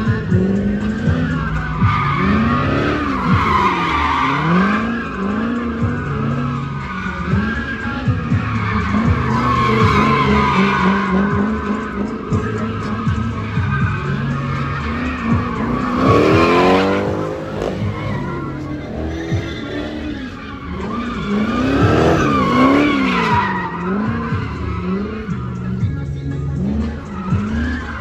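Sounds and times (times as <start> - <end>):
car engine revving: 0.0 - 28.0
tyres squealing: 0.6 - 28.0.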